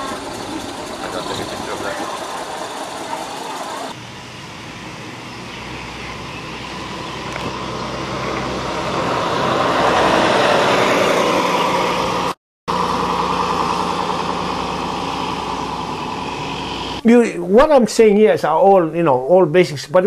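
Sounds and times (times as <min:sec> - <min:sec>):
bus engine driving past: 0:00.0 - 0:17.0.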